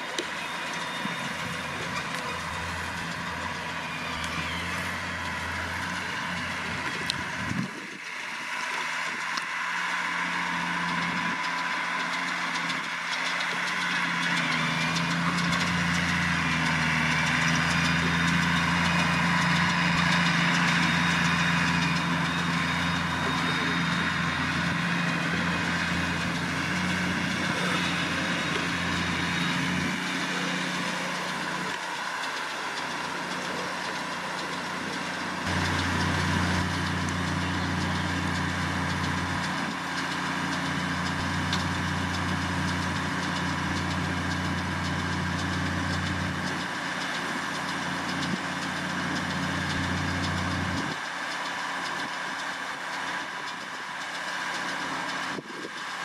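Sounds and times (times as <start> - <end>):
baler machinery clattering: 0.0 - 56.0
tractor engine running: 0.0 - 56.0.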